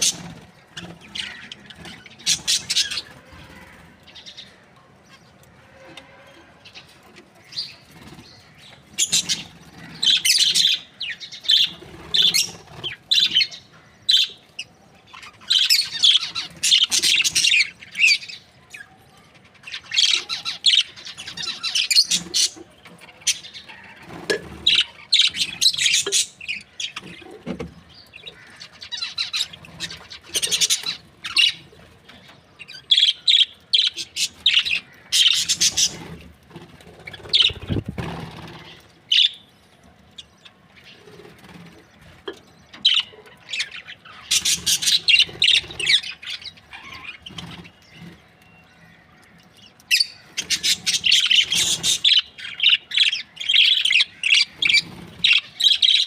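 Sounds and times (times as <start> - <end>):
budgerigars chirping and chattering: 0.0 - 5.3, 6.8 - 39.5, 40.1 - 56.0.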